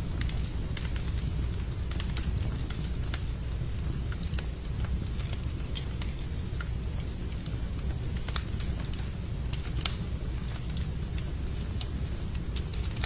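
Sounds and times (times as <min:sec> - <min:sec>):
burning logs crackling and popping: 0:00.0 - 0:13.0
fire flames rumbling: 0:00.0 - 0:13.0.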